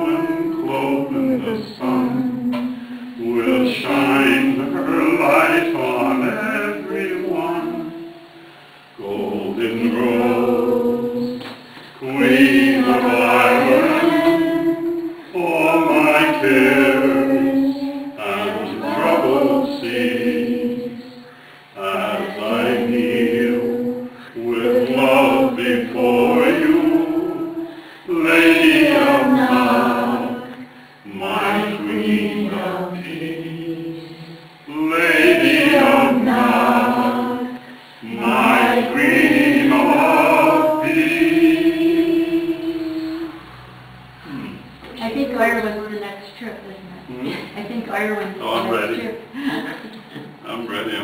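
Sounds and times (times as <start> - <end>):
group of voices singing unaccompanied: 0.0 - 45.3, 48.4 - 51.0.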